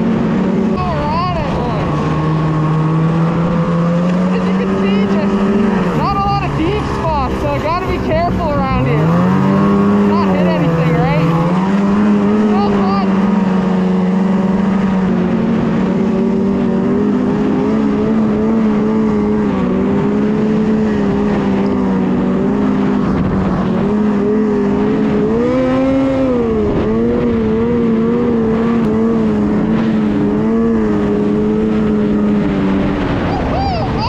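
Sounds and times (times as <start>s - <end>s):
snowmobile engine running: 0.0s - 34.0s.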